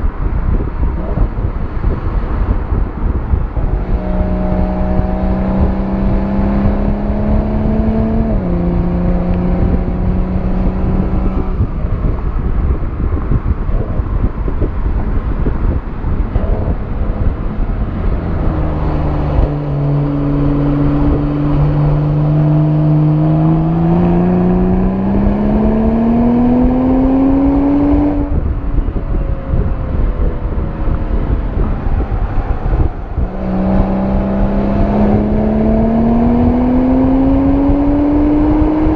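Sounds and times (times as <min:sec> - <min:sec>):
car exhaust note: 0:00.0 - 0:38.9
wind and road rush: 0:00.0 - 0:38.9.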